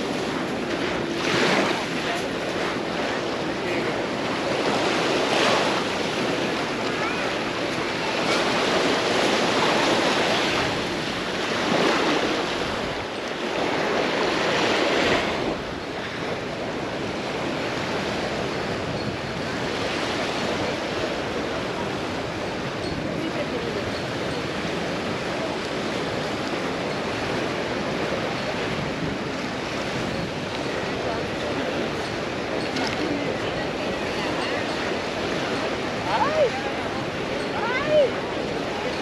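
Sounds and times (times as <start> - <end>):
small sea waves breaking: 0.0 - 39.0.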